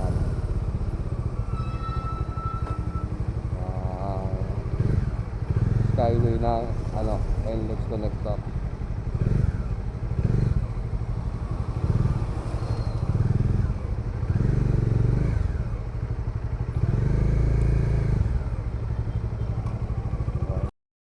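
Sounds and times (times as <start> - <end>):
motorcycle engine revving: 0.0 - 20.7.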